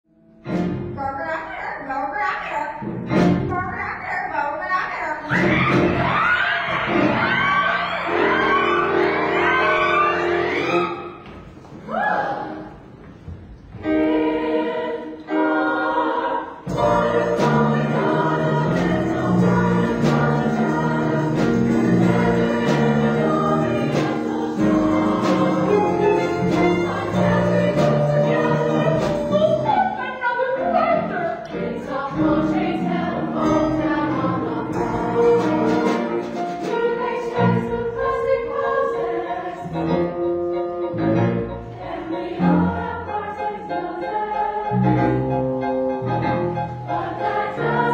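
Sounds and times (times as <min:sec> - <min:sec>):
chorus singing with accompaniment: 0:05.4 - 0:13.0, 0:13.7 - 0:47.9.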